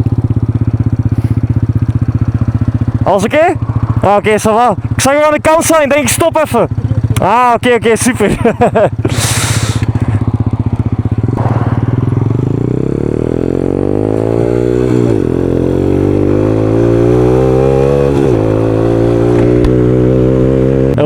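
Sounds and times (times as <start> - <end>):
motorcycle accelerating: 0.0 - 21.0.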